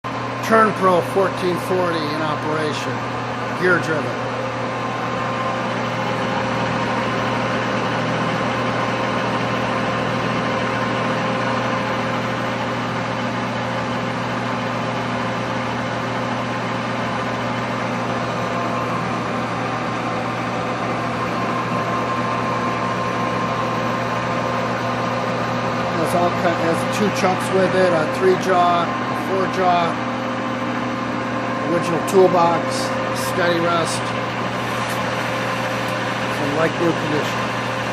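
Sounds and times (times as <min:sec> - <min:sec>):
lathe running with steady hum: 0:00.0 - 0:37.9.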